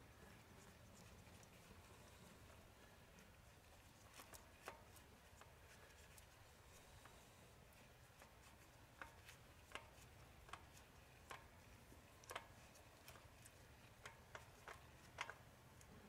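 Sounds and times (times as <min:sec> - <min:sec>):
faint clicks and ticks: 0:00.0 - 0:16.0.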